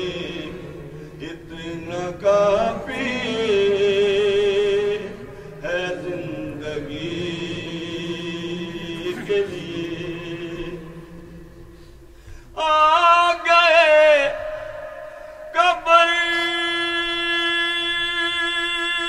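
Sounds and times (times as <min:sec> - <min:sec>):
man chanting: 0:00.0 - 0:11.4, 0:12.6 - 0:19.0.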